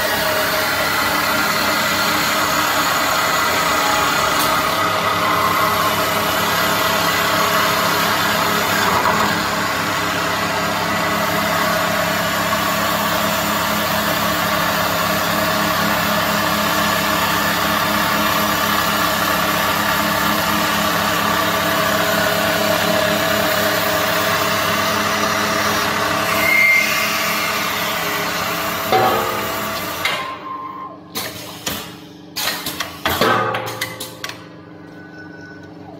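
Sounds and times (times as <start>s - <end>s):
wood-turning lathe humming: 0.0s - 30.0s.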